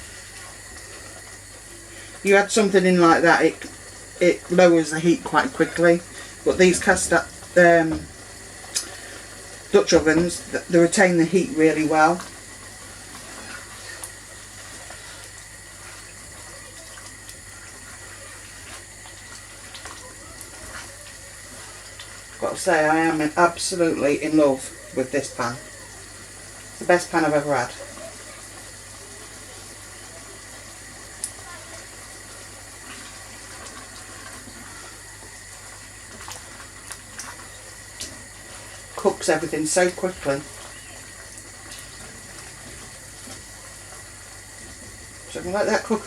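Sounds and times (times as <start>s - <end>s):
chicken and sauce sizzling in a pot: 0.0s - 46.0s.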